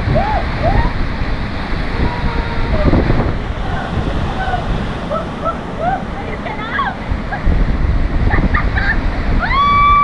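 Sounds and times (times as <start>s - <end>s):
waterfall rushing: 0.0s - 10.0s
wind buffeting microphone: 0.0s - 10.0s.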